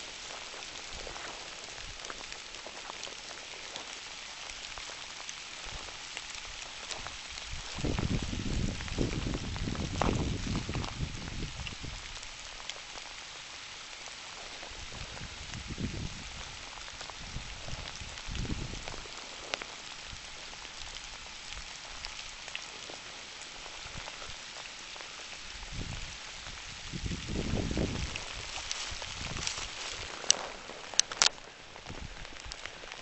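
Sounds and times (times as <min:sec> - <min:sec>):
rain hissing: 0:00.0 - 0:33.0
raindrops ticking: 0:00.0 - 0:33.0.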